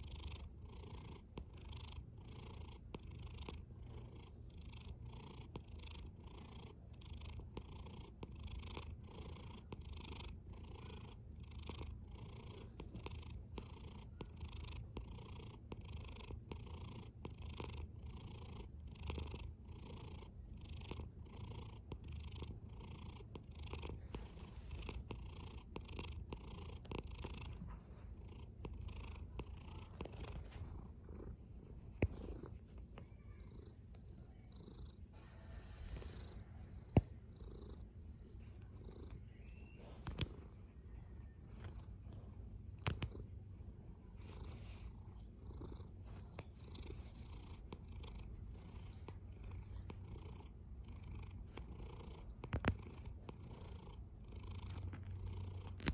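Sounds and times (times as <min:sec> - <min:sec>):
cat purring: 0:00.0 - 0:55.9.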